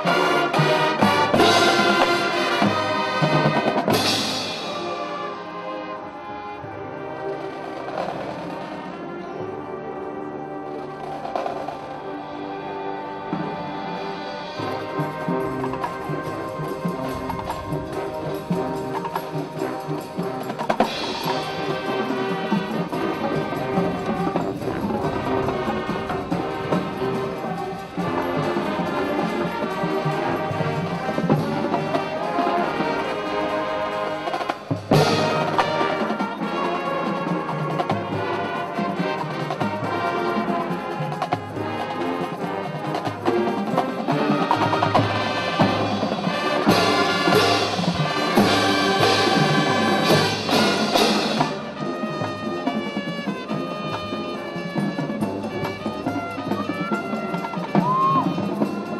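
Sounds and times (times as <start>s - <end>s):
drumline percussion: 0.0s - 9.8s, 10.5s - 58.9s
brass chords: 0.0s - 58.9s
marching band playing: 0.0s - 58.9s.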